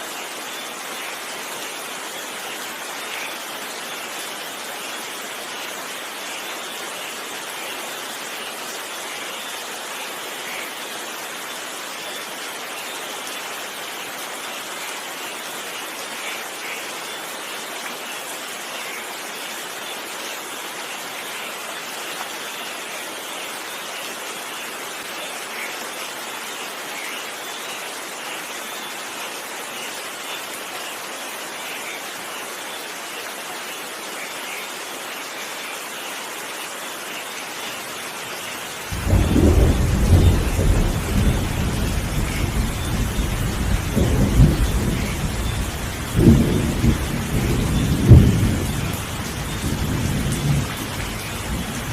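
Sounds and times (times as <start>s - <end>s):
rain drops: 0.0s - 51.9s
steady rain hiss: 0.0s - 51.9s.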